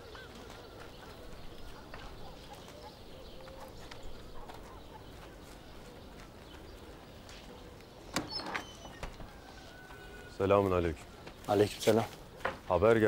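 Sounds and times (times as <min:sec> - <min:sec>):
birds calling: 0:00.0 - 0:13.0
light footsteps: 0:00.0 - 0:13.0.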